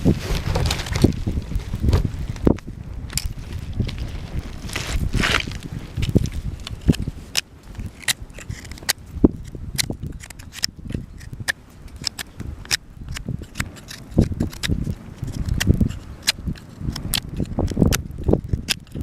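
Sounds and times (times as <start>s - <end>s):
campfire crackling: 0.7s - 19.0s.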